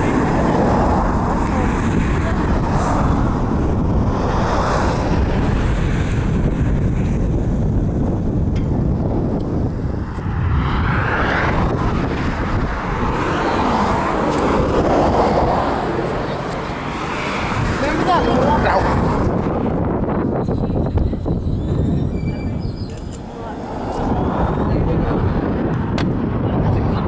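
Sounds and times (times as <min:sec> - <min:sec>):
vehicles passing: 0:00.0 - 0:27.0
wind rumble on microphone: 0:00.0 - 0:27.0.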